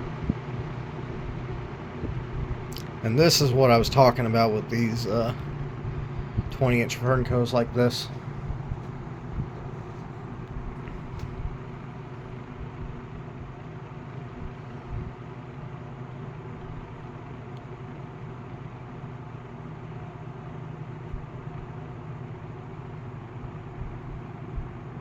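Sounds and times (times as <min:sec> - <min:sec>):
box fan motor hum: 0:00.0 - 0:25.0.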